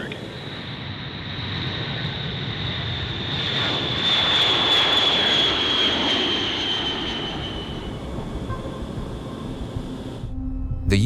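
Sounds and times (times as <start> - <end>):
jet engines passing by: 0.0 - 10.3.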